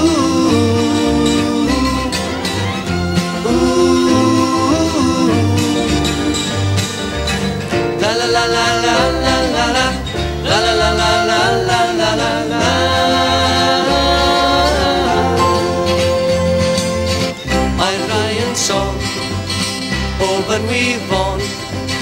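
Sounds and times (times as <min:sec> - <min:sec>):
country pop song with guitars: 0:00.0 - 0:22.0.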